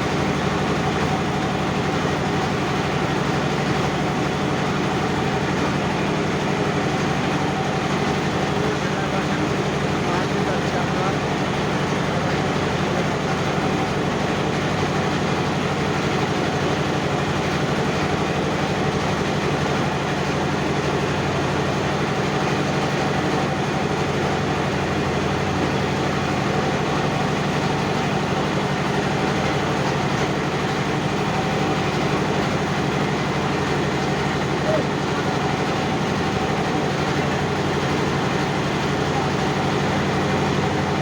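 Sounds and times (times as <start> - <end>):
motor boat engine droning: 0.0 - 41.0.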